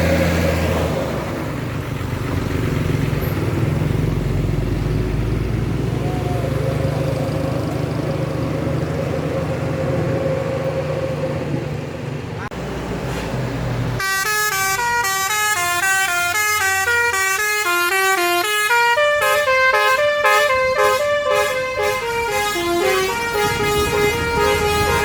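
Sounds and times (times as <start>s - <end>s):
bus engine running: 0.0s - 25.0s
road traffic: 0.0s - 25.0s.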